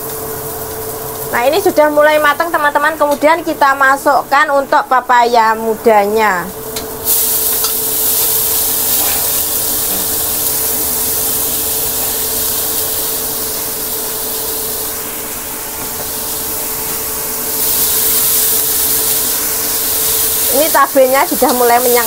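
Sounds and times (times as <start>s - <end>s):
papaya sizzling in a wok: 0.0s - 22.0s.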